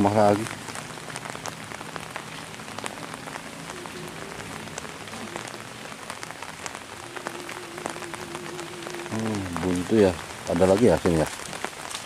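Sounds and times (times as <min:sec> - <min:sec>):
raindrops hitting close: 0:00.0 - 0:12.0
steady rain falling: 0:00.0 - 0:12.0.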